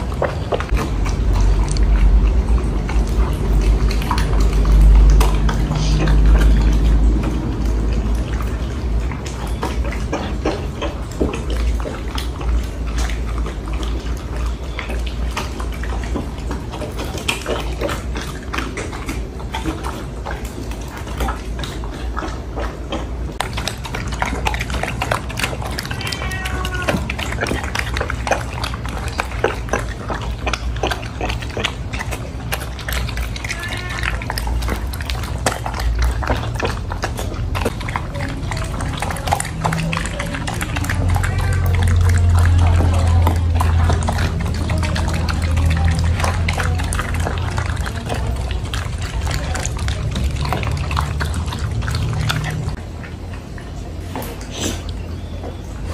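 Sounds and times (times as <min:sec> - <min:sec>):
dogs lapping and chomping food: 0:00.0 - 0:55.9.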